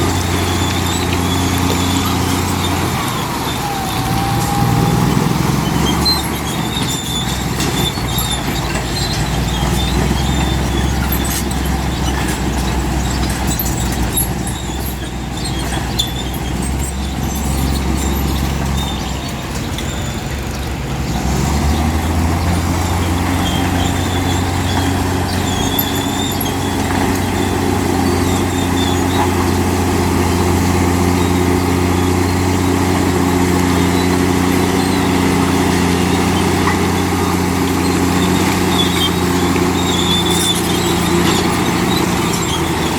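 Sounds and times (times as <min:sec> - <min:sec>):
faint high squeaks: 0:00.0 - 0:20.8, 0:21.4 - 0:29.7, 0:33.3 - 0:42.9
bulldozer diesel engine running: 0:00.0 - 0:42.9.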